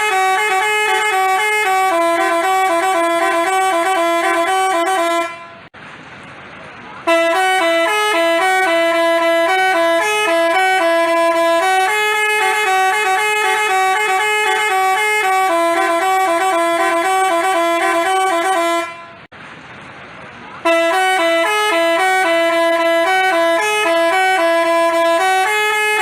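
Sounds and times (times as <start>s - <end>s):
multi-trumpet bus horn tune: 0.0s - 5.7s, 7.0s - 19.3s, 20.6s - 26.0s.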